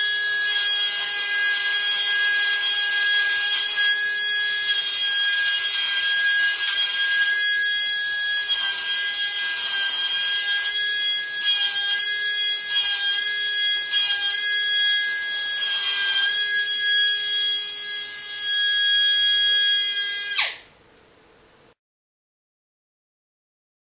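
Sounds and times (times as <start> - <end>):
die grinder whine: 0.0 - 20.7.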